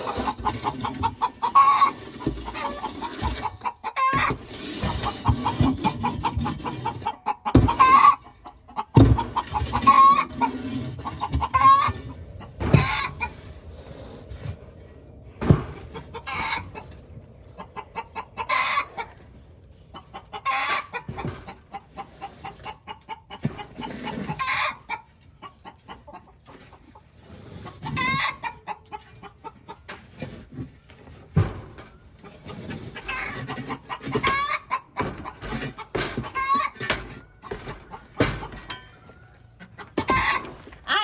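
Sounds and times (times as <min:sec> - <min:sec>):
hens clucking and cackling: 0:00.0 - 0:41.0.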